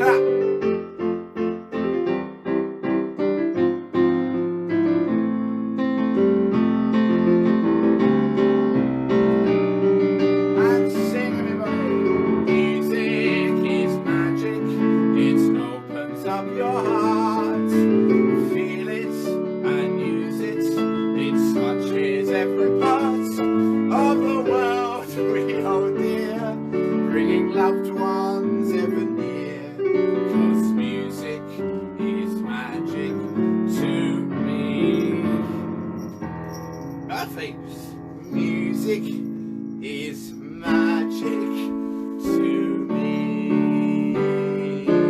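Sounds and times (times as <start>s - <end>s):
piano chords: 0.0s - 45.0s.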